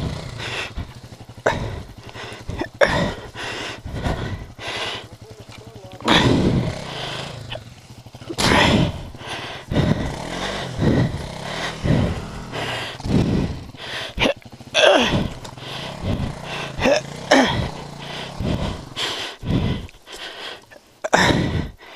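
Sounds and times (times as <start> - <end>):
dirt bike engine idling and revving: 0.0 - 21.9.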